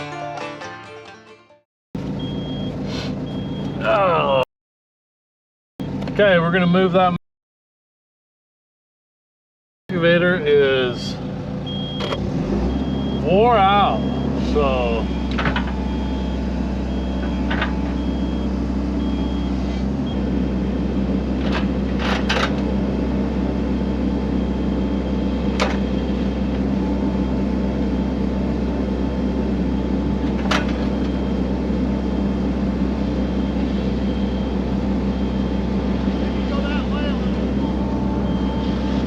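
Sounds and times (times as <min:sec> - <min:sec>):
excavator diesel engine running: 0:02.0 - 0:04.4, 0:09.9 - 0:39.0.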